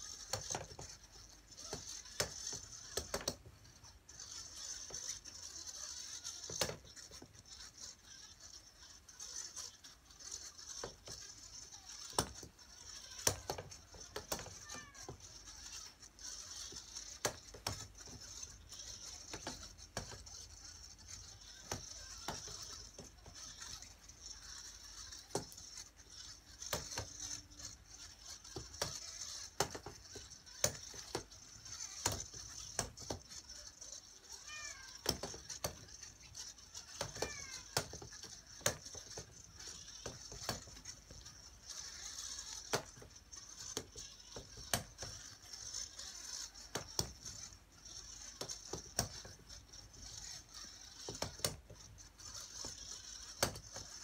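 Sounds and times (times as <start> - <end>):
robotic balls rolling on a board: 0.0 - 54.0
balls knocking against wooden frame: 0.1 - 7.4, 9.4 - 33.6, 34.6 - 45.5, 46.4 - 51.8, 52.4 - 54.0.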